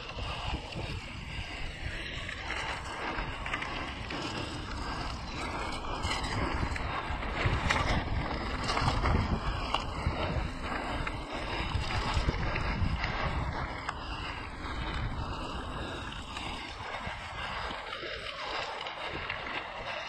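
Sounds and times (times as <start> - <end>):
tyres rolling over dirt: 0.0 - 18.8
bike rattling and clicking: 0.0 - 20.0
wind buffeting microphone: 0.0 - 20.0.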